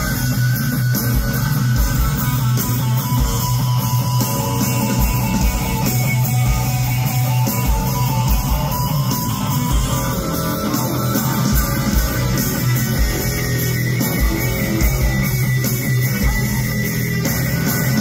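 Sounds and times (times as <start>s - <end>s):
electric guitar: 0.0s - 18.0s
live rock band playing: 0.0s - 18.0s.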